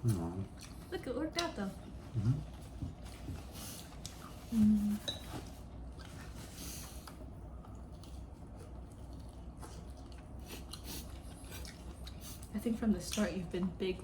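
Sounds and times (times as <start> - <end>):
chewing: 0.0 - 13.7.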